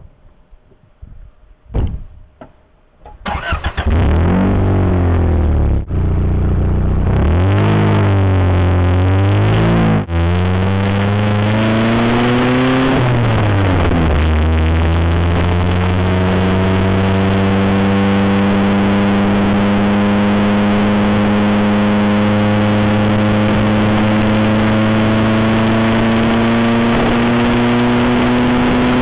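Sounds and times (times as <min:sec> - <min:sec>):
car engine starting and accelerating: 0:03.2 - 0:29.0.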